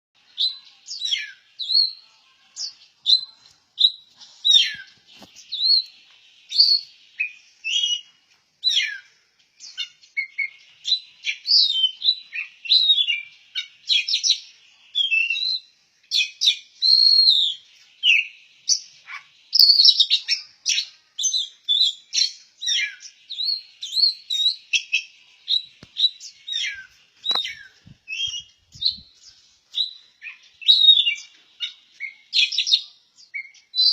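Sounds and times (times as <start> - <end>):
bird singing whistles and chirps: 0.2 - 33.9.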